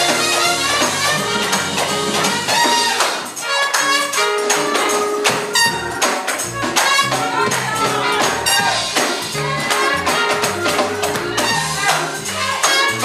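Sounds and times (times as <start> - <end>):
band playing upbeat groove: 0.0 - 13.0.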